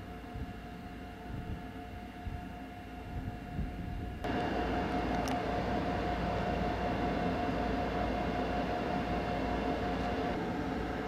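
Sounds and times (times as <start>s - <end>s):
high steady whine: 0.0s - 11.0s
locomotive humming: 0.0s - 11.0s.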